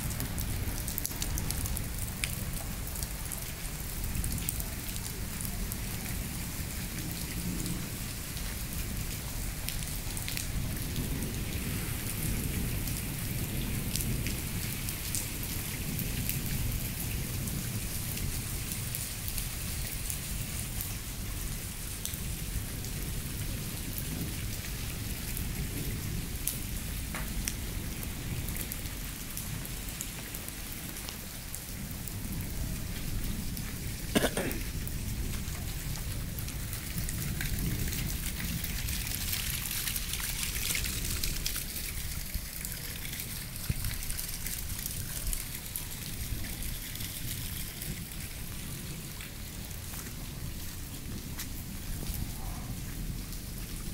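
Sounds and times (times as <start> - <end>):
rain falling on dirt ground: 0.0 - 53.9.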